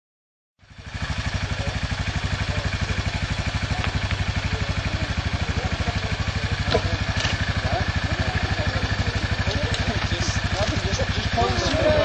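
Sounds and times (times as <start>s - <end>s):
atv engine idling: 0.6s - 12.0s.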